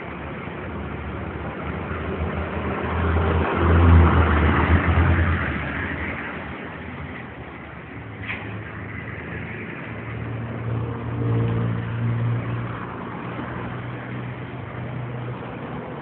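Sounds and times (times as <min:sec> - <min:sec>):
street noise: 0:00.0 - 0:16.0.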